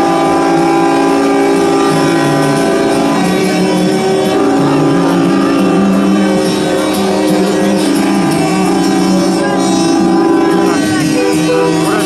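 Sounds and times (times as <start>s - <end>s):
truck air horns blaring: 0.0s - 12.0s.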